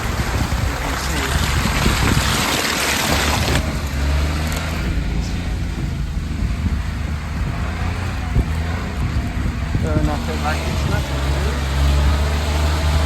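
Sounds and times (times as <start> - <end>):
small truck engine running: 0.0 - 13.0.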